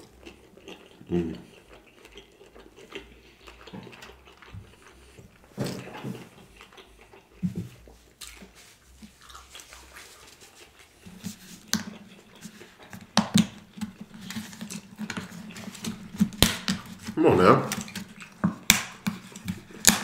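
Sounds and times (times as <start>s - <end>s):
man chewing food: 0.0s - 20.0s.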